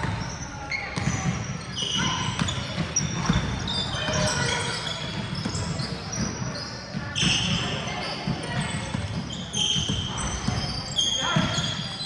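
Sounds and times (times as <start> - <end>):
basketball bouncing on court: 0.0 - 11.9
players' voices: 0.0 - 12.0.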